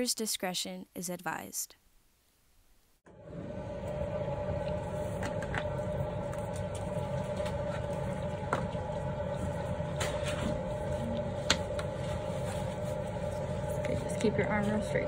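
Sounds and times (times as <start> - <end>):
room hum: 0.9 - 15.0.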